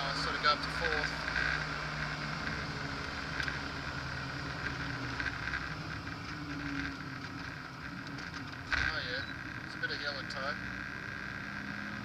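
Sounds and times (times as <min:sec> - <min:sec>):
car engine pulling: 0:00.0 - 0:12.0.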